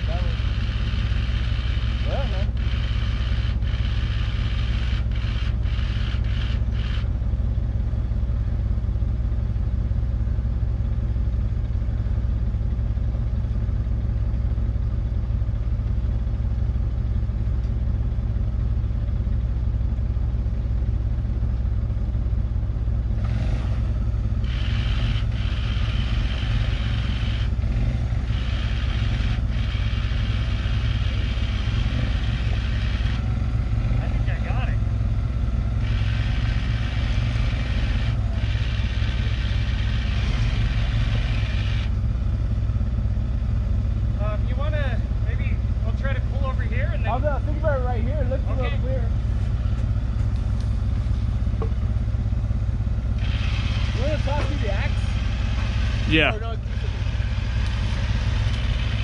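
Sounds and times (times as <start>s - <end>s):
car engine idling: 0.0s - 59.0s
off-road vehicle engine approaching: 0.0s - 59.0s.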